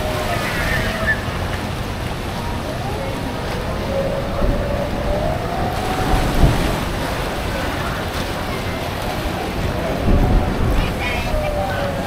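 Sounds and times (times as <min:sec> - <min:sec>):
water churning around boat hull: 0:00.0 - 0:12.0
wind buffeting microphone: 0:00.0 - 0:12.0.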